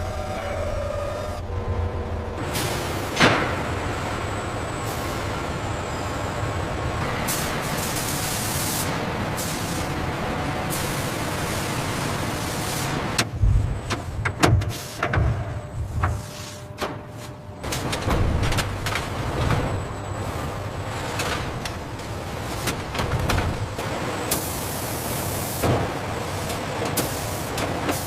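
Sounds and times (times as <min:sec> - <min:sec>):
heavy machinery working scrap metal: 0:00.0 - 0:28.0.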